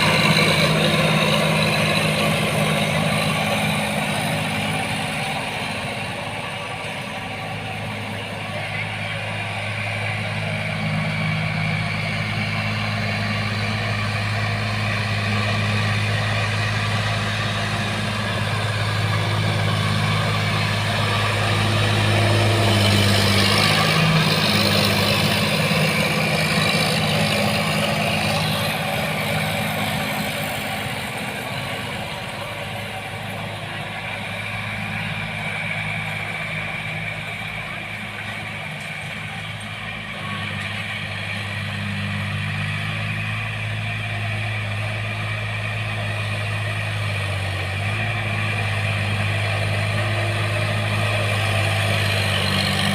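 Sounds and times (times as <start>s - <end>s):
tractor diesel engine drone: 0.0s - 52.9s.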